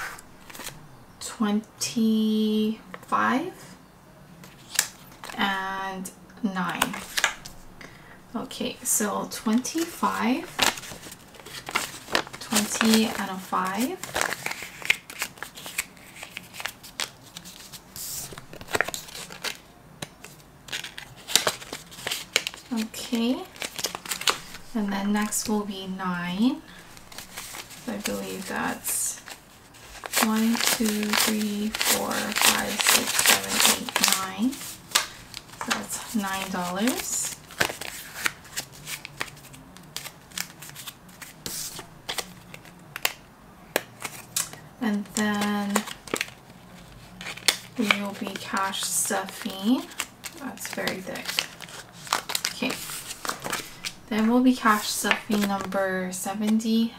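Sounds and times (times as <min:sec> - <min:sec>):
paper banknotes rustling: 0:06.7 - 0:08.0, 0:09.4 - 0:56.9.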